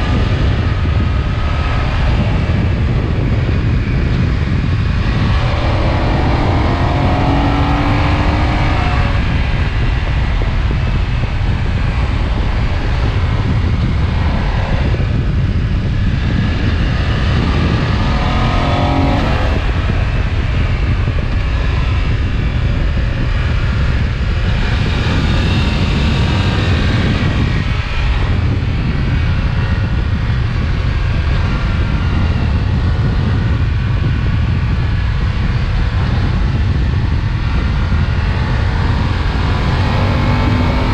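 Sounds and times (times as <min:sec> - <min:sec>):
motorcycle engine: 0:00.0 - 0:40.9
wind and road noise: 0:00.0 - 0:40.9.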